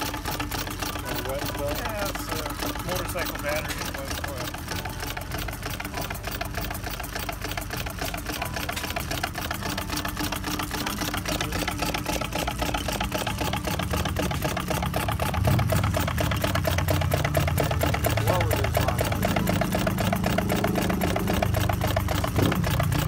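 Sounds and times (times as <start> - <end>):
engine clattering: 0.0 - 23.0.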